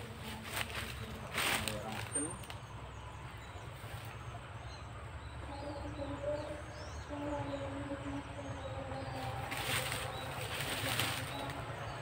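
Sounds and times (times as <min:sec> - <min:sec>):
low hum-like tone: 0:00.0 - 0:12.0.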